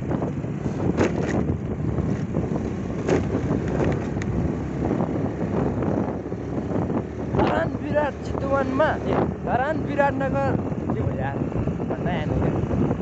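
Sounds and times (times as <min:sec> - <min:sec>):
motorbike engine and road noise: 0:00.0 - 0:13.0
wind buffeting the microphone: 0:00.0 - 0:13.0.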